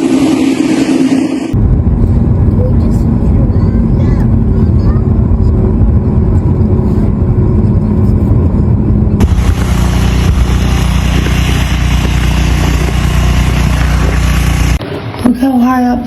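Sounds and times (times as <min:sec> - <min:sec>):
steady rushing noise: 0:00.0 - 0:15.2
vehicle engine droning: 0:00.0 - 0:15.2.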